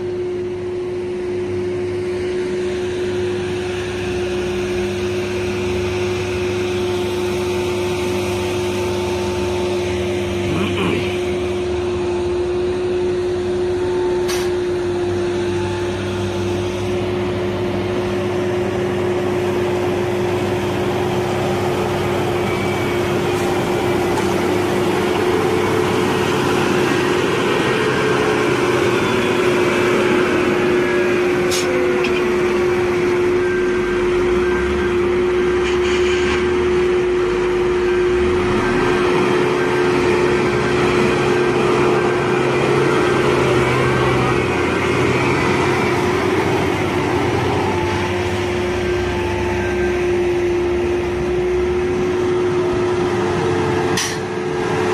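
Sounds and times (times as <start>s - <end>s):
heavy machinery engine drone: 0.0s - 54.9s.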